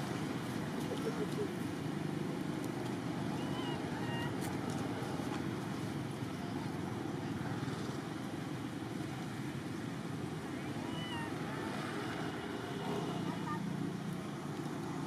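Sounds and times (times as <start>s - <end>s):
background rumble and hiss: 0.0s - 15.0s.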